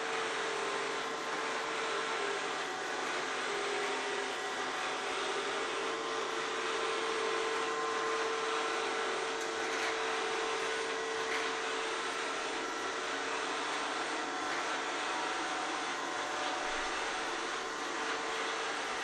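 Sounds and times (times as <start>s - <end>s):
robotic vacuum cleaner whirring: 0.0s - 19.0s.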